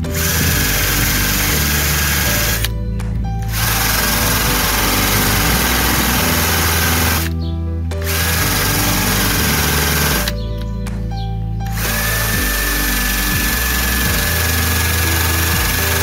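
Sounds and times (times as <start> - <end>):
background music with a beat: 0.0 - 16.0.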